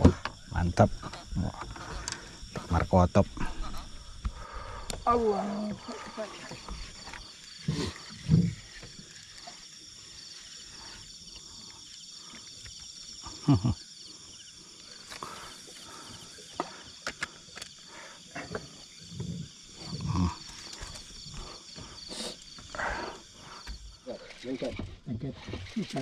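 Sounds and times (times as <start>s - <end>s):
night insects chorus: 0.0s - 26.0s.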